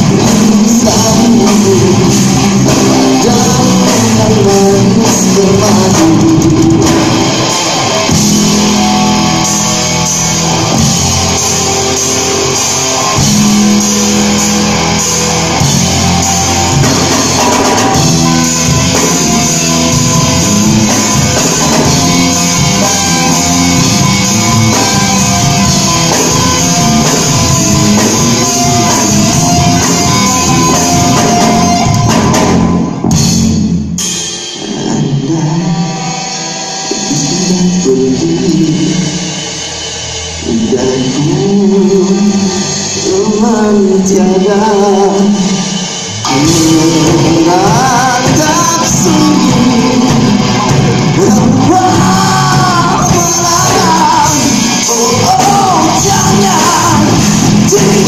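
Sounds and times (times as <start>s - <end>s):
bass guitar: 0.0s - 58.0s
drum kit: 0.0s - 58.0s
melodic electric guitar line: 0.0s - 58.0s.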